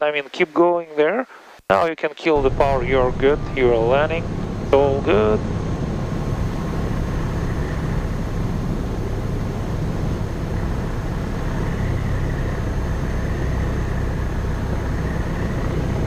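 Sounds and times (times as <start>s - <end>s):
aircraft engine droning: 2.4s - 16.0s
airflow noise: 2.4s - 16.0s.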